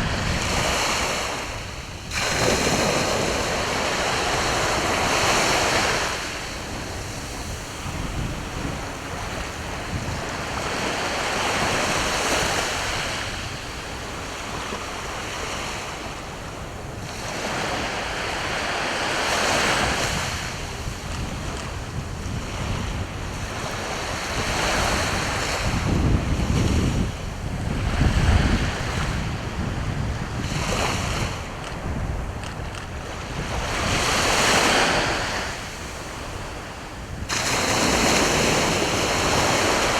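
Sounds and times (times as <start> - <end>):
sea waves breaking on shore: 0.0 - 39.9
wind buffeting microphone: 0.0 - 39.9.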